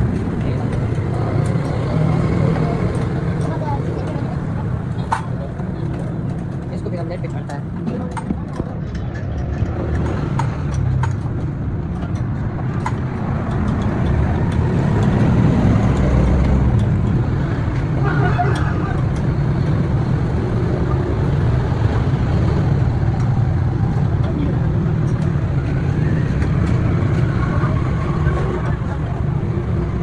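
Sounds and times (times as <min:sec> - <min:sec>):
low vehicle rumble: 0:00.0 - 0:30.0.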